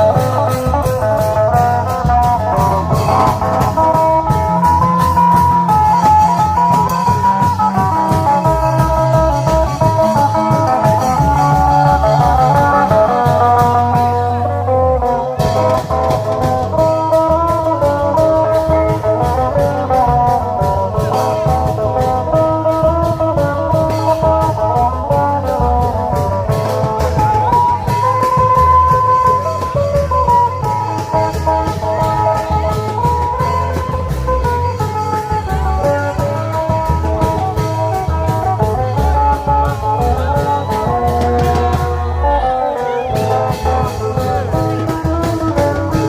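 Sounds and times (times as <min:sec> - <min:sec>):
driving drum beat: 0:00.0 - 0:46.0.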